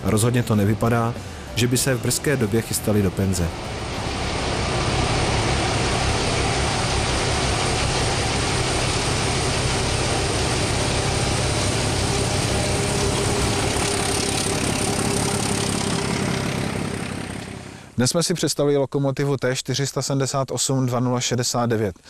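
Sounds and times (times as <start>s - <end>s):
diesel locomotive engine drone: 0.0s - 18.0s
train rolling on track: 0.0s - 18.0s.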